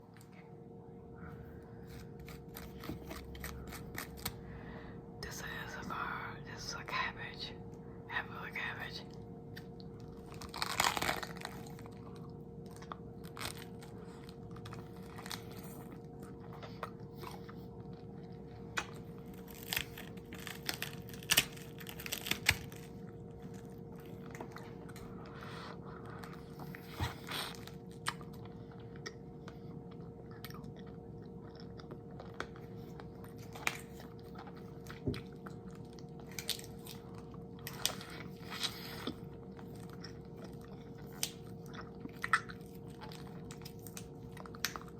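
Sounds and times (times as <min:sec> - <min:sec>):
faint steady hum: 0:00.0 - 0:44.9
crisp crunching and chewing: 0:01.8 - 0:04.4, 0:09.1 - 0:44.9.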